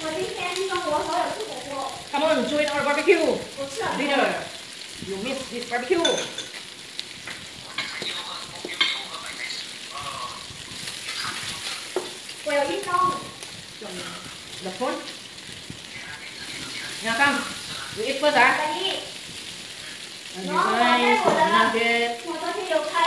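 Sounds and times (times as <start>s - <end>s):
meat sizzling on grill pan: 0.0s - 23.0s.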